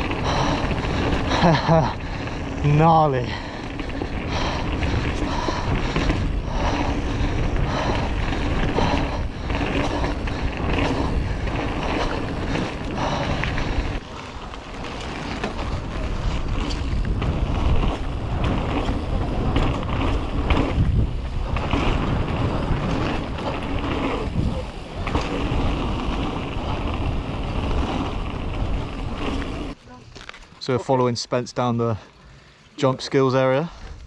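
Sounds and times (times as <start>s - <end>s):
wind buffeting microphone: 0.0s - 29.8s
bike rattling over rough ground: 0.0s - 34.0s
bike tyres on muddy trail: 0.0s - 34.0s.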